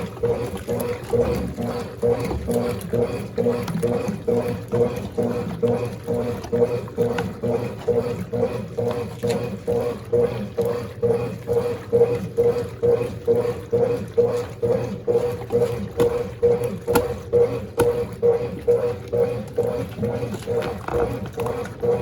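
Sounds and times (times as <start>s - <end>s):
washing machine agitating: 0.0s - 22.0s.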